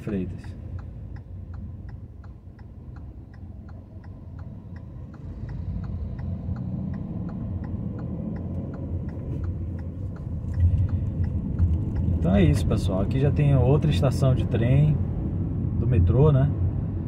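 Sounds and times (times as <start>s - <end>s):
engine and road rumble: 0.0s - 17.0s
turn signal ticking: 0.0s - 17.0s.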